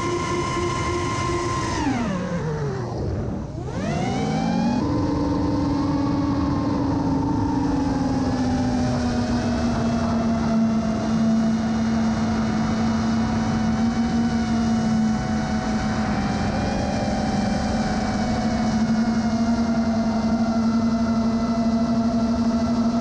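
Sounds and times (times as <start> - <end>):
drone motors whining: 0.0 - 23.0
wind noise: 0.0 - 23.0.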